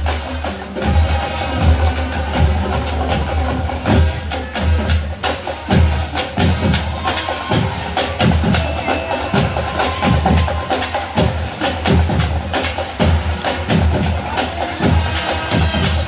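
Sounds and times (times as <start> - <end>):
drums and percussion: 0.0 - 16.0
marching band playing: 0.0 - 16.0.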